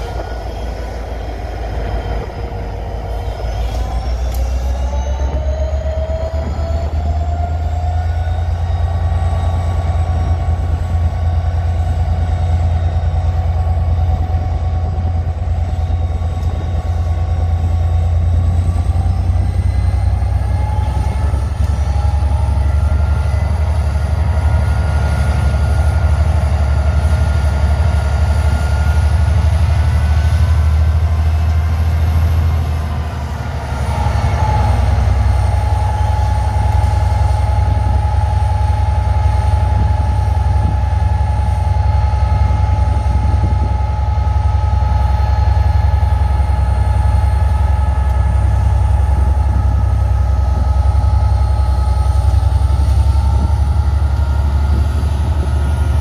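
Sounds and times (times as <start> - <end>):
diesel train engine drone: 0.0 - 56.0
train whine: 0.0 - 56.0.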